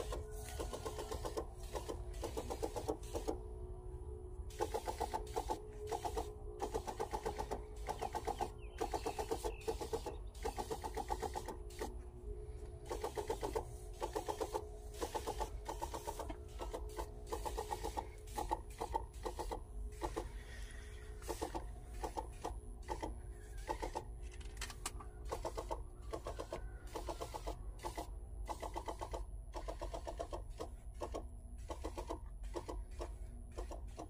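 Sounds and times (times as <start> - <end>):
sprayer pump rhythmic clatter: 0.0 - 3.5, 4.5 - 34.0
steady pump hum: 0.0 - 34.0.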